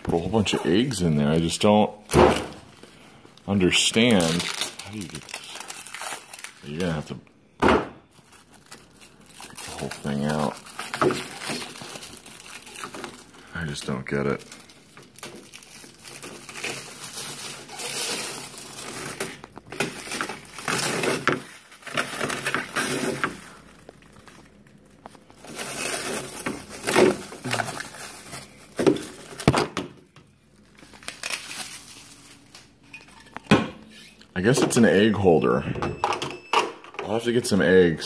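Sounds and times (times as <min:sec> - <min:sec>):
plastic film crackling: 0:00.0 - 0:07.2, 0:08.0 - 0:35.2.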